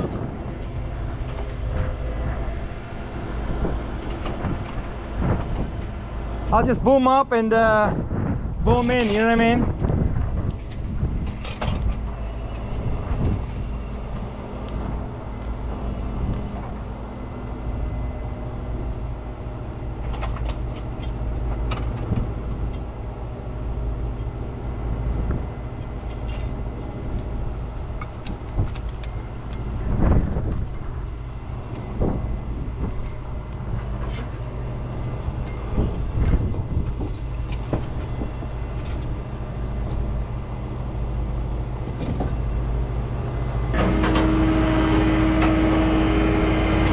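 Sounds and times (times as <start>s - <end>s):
diesel engine under hydraulic load: 0.0s - 7.0s, 7.7s - 46.9s.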